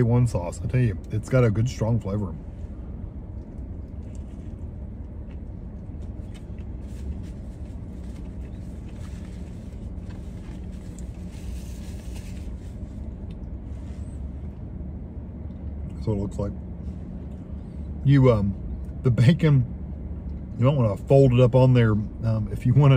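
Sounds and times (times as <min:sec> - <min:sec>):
car idling rumble: 0:00.0 - 0:22.9.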